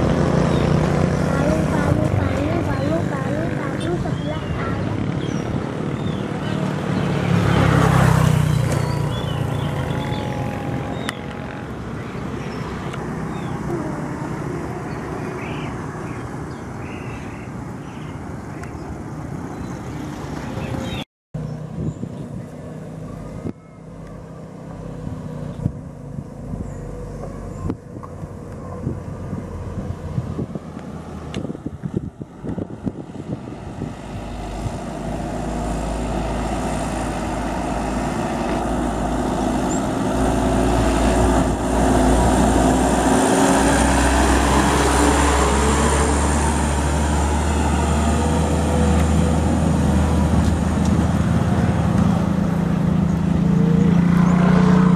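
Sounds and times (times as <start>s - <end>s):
diesel truck engine passing: 0.0s - 16.8s, 17.4s - 54.9s.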